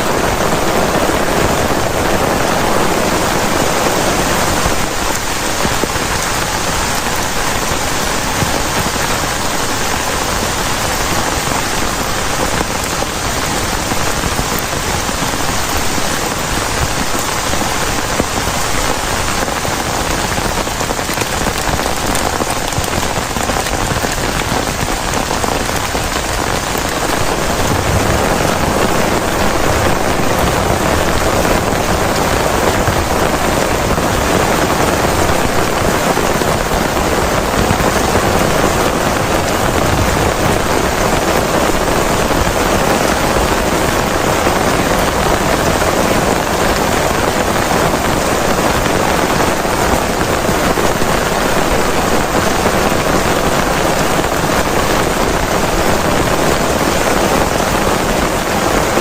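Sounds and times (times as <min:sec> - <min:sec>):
heavy rain on plastic tarp: 0:00.0 - 0:59.0.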